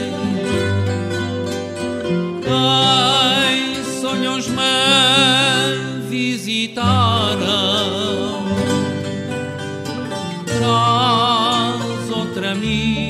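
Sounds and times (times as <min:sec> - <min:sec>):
guitar accompaniment: 0:00.0 - 0:13.0
man singing with vibrato: 0:00.0 - 0:13.0.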